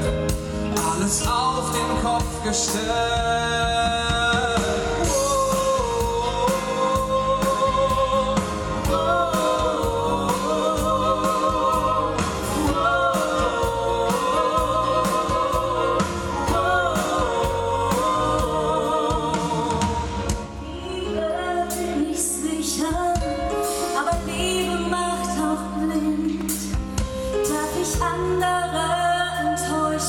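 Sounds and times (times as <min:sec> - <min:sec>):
band with keyboard and strings: 0:00.0 - 0:30.0
man and woman singing ballad: 0:00.0 - 0:30.0.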